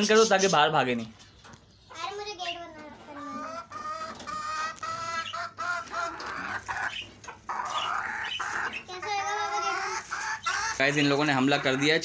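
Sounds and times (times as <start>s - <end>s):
chickens clucking and squawking: 0.0s - 12.0s.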